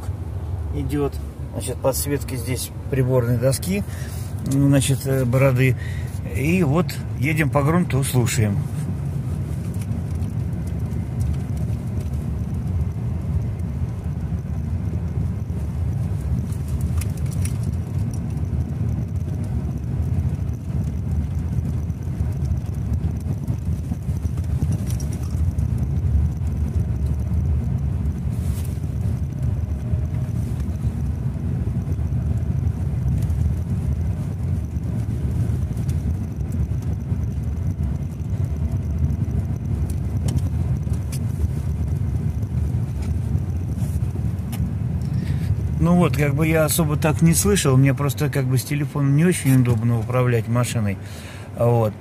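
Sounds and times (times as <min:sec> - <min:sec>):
car interior road rumble: 0:00.0 - 0:52.0.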